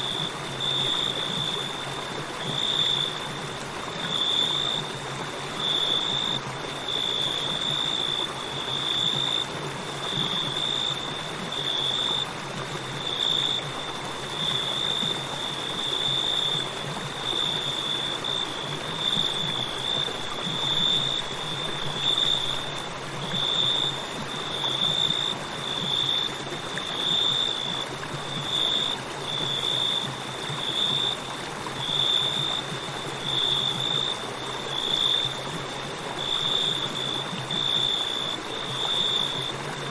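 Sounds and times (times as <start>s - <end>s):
crickets chirping: 0.0s - 39.9s
river flowing: 0.0s - 39.9s.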